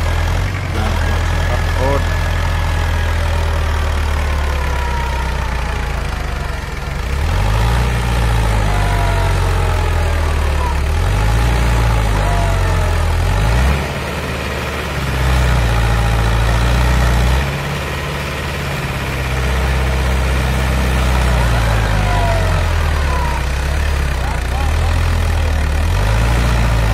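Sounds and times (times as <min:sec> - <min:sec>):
tractor engine under load: 0:00.0 - 0:26.9.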